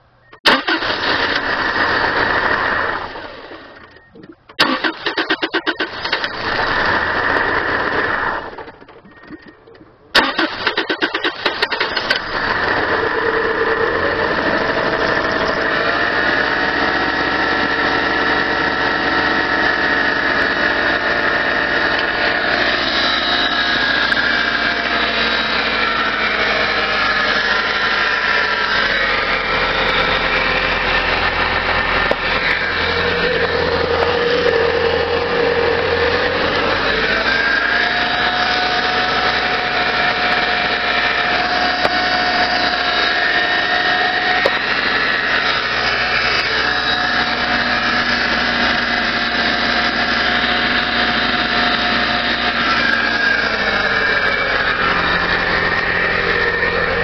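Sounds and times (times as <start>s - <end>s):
engine running with whine: 0.0s - 57.0s
car engine cranking: 0.2s - 57.0s.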